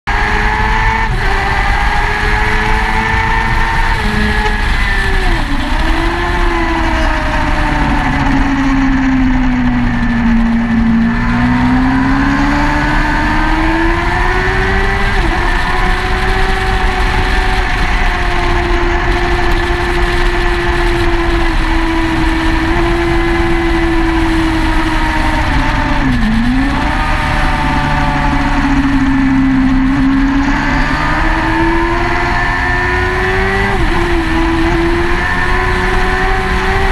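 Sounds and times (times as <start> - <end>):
motorcycle engine running hard: 0.1 - 36.9
wind rush on microphone: 0.1 - 36.9.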